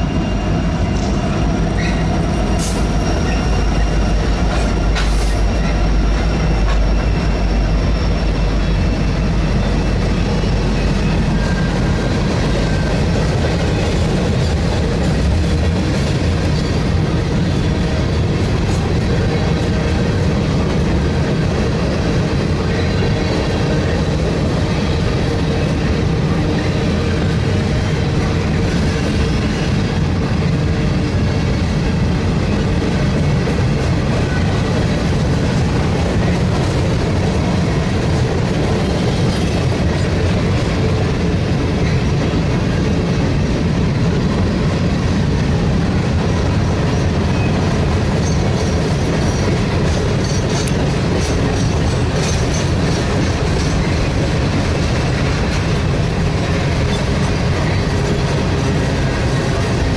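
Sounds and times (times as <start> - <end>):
train wheels rumbling on bridge: 0.0 - 59.9.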